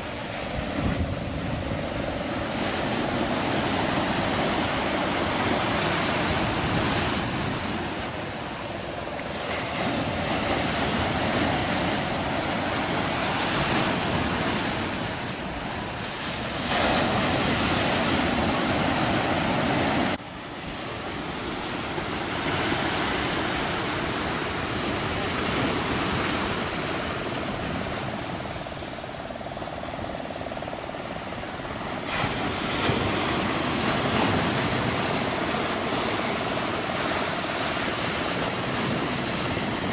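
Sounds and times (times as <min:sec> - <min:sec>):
surf breaking over rocks: 0:00.0 - 0:20.2, 0:20.8 - 0:39.9.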